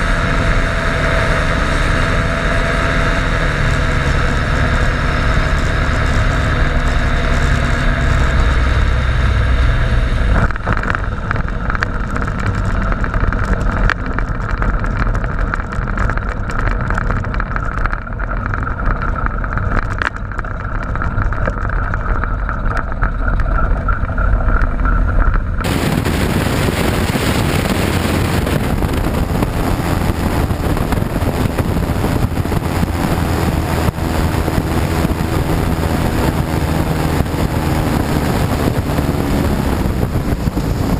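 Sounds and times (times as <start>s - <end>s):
ultralight engine and propeller: 0.0s - 40.9s
wind on microphone: 0.0s - 40.9s.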